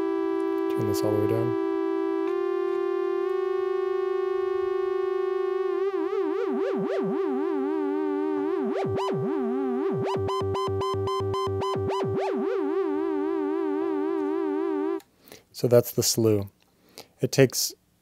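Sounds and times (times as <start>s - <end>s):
steady synthesizer tone: 0.0s - 15.0s
synthesizer pitch gliding and jumping: 0.0s - 15.0s.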